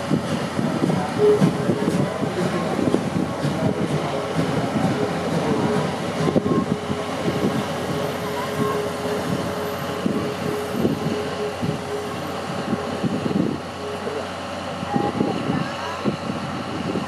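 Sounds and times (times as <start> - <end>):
low rumble of locomotive: 0.0 - 17.0
steam locomotive hum: 0.0 - 17.0.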